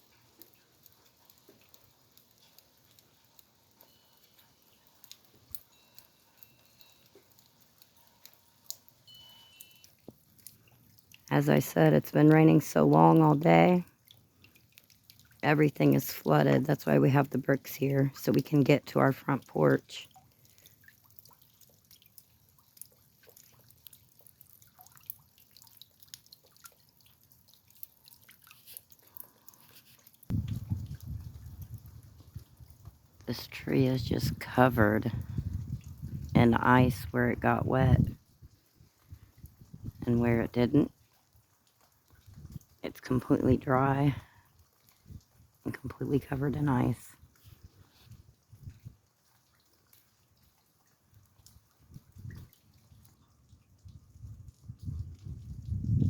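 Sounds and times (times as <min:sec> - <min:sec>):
ticking of freezing rain: 0:00.0 - 0:56.0.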